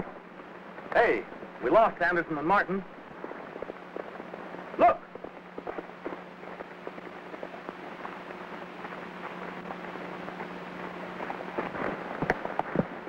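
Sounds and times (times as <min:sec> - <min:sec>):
film soundtrack crackling hiss: 0:00.0 - 0:13.0
low hum: 0:00.0 - 0:13.0.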